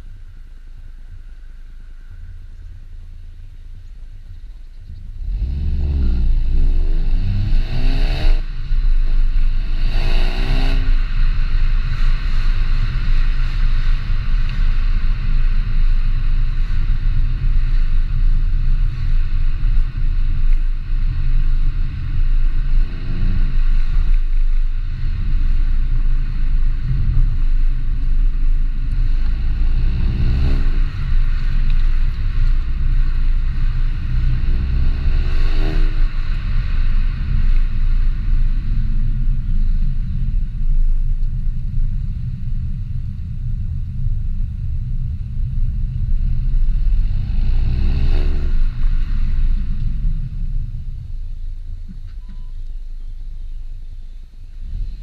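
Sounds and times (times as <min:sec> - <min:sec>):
car engine accelerating hard: 0:04.9 - 0:52.1, 0:54.4 - 0:55.0.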